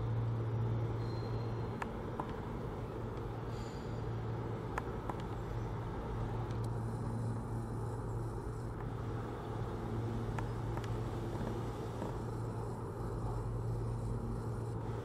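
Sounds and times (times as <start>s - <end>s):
electric train low hum: 0.0s - 15.0s.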